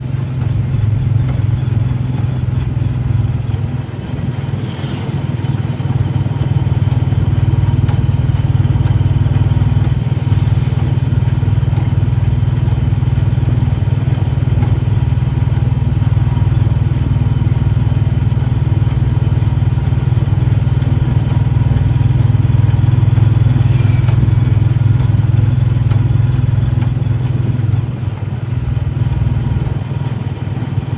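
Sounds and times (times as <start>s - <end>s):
engine humming steadily: 0.0s - 30.9s.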